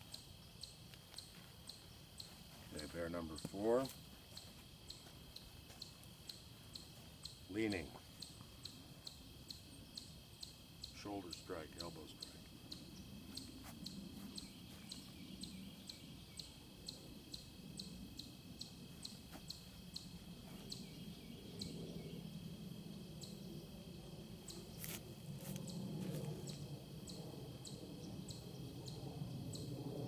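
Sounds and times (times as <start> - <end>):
high insect drone: 0.0 - 30.0
insects chirping: 0.0 - 30.0.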